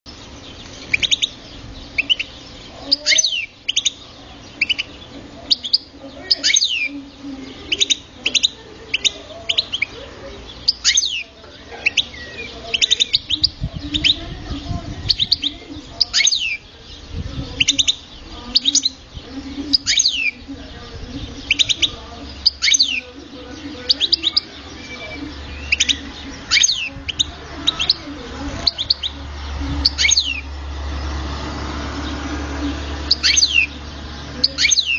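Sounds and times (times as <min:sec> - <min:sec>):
goldfinch singing: 0:00.1 - 0:34.9.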